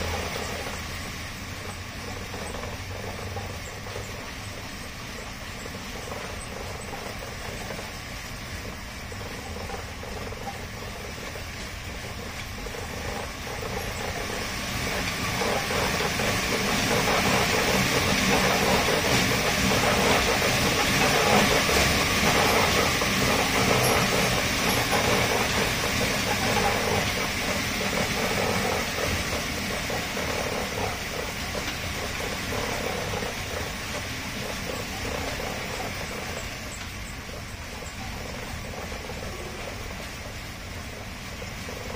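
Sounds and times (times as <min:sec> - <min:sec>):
dog treadmill drum rumbling: 0:00.0 - 0:41.9.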